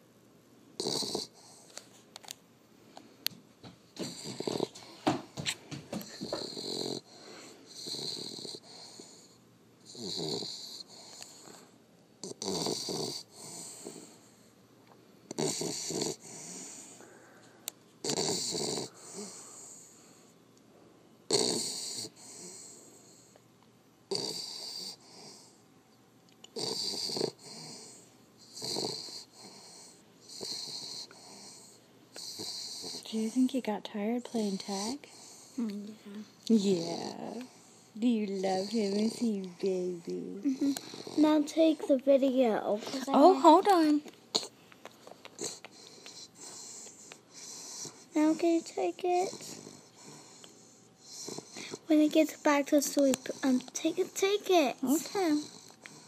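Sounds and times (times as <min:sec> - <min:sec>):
dog snoring: 0:00.8 - 0:01.8, 0:04.0 - 0:05.2, 0:05.9 - 0:14.5, 0:15.3 - 0:17.1, 0:18.0 - 0:20.3, 0:21.3 - 0:23.4, 0:24.1 - 0:25.6, 0:26.5 - 0:33.7, 0:34.3 - 0:39.8, 0:40.5 - 0:43.7, 0:45.3 - 0:56.0.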